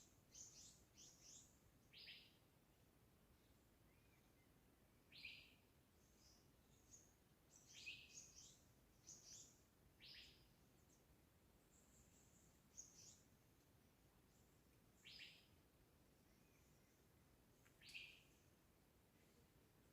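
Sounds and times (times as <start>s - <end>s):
faint songbird chirps: 0.0s - 19.9s.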